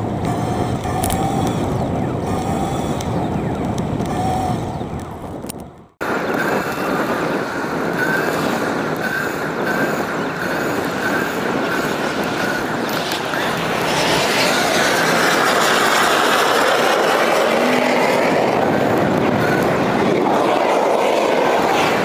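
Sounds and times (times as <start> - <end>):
passing traffic: 0.0 - 22.0
tyre and road rumble: 0.0 - 22.0
wind on microphone: 0.0 - 22.0.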